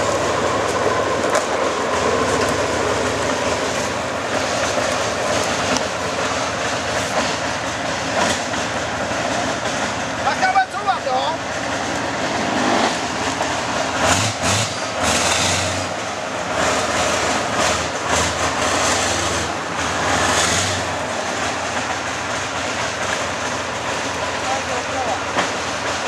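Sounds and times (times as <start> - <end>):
heavy vehicle engine under load: 0.0 - 26.0
steel tracks clattering: 0.0 - 26.0.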